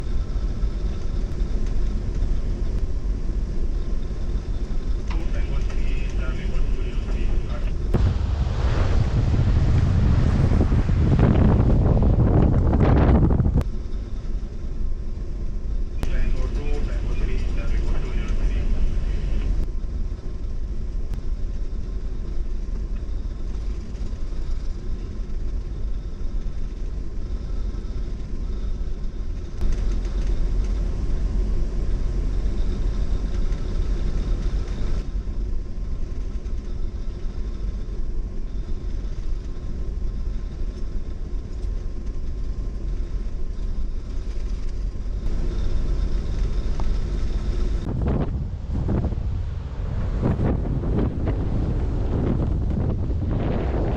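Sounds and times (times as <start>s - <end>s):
faint steady hum: 0.0s - 53.9s
ship engine low rumble: 0.0s - 53.9s.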